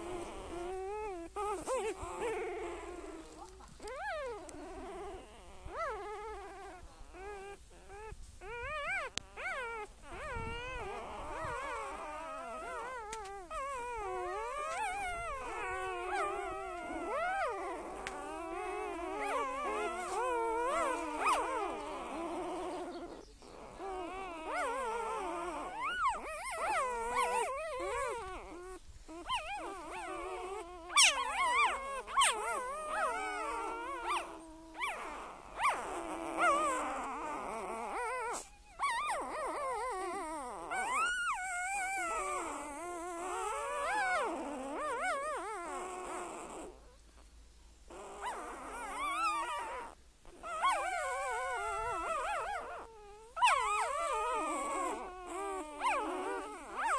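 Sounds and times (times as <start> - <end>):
pet animal wavering calls: 0.0 - 46.8, 47.9 - 56.9.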